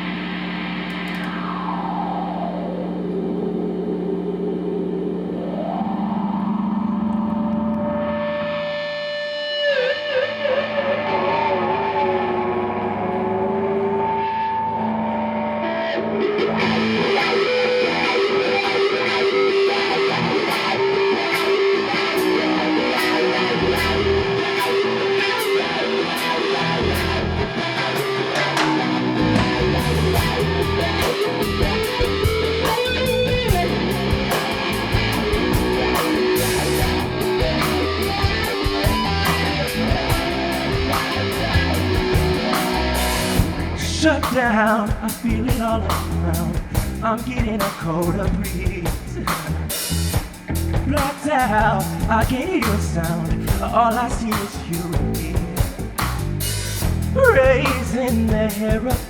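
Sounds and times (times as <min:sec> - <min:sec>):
effected electric guitar: 0:00.0 - 0:59.0
rock band playing: 0:07.8 - 0:59.0.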